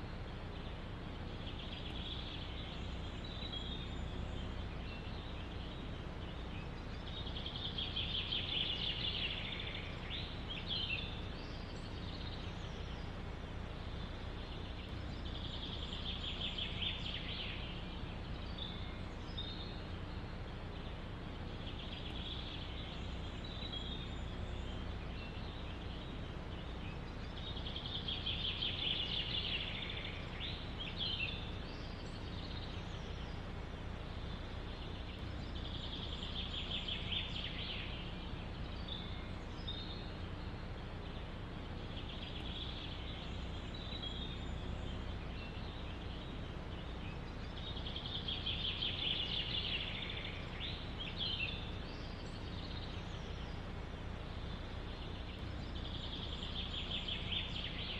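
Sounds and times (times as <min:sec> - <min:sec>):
forest ambience rush: 0:00.0 - 0:57.9
songbird buzzy trilled song: 0:00.0 - 0:57.9.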